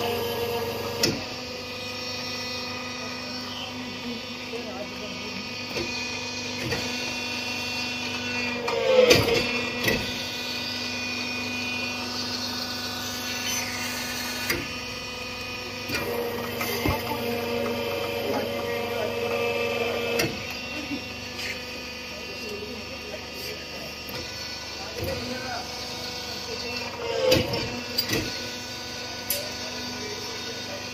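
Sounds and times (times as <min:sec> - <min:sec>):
machinery hum: 0:00.0 - 0:30.9.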